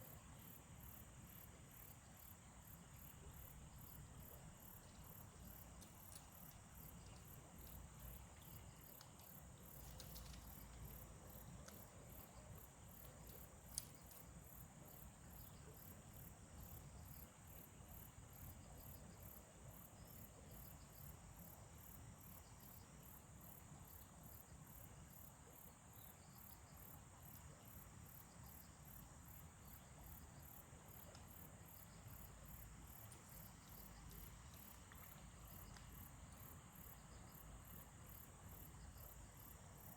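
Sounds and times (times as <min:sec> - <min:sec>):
high insect hum: 0:00.0 - 0:39.9
insects chirping in pulses: 0:00.0 - 0:39.9.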